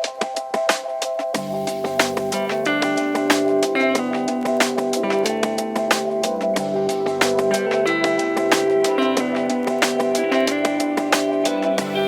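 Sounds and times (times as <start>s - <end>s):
music with steady beat: 0.0s - 12.0s
plucked guitar notes: 1.6s - 12.0s.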